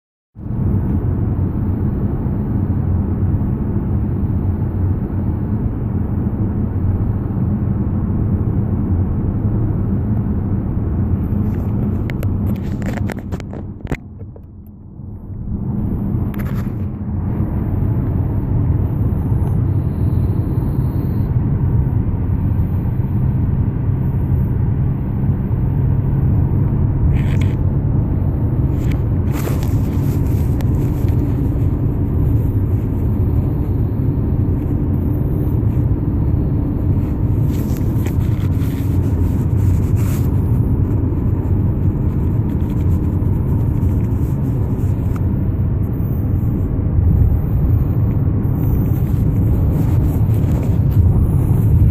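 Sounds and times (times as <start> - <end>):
loud low rumble: 0.4 - 51.9.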